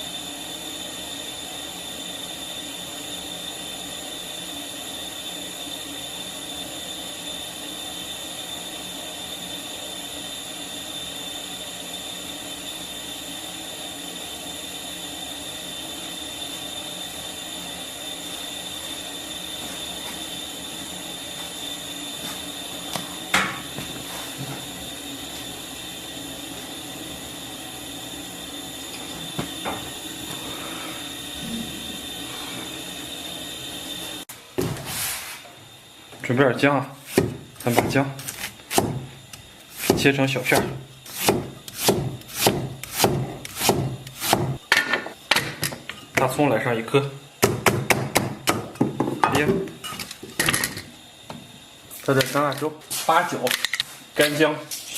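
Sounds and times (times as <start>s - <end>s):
kitchen exhaust fan whirring: 0.0s - 54.9s.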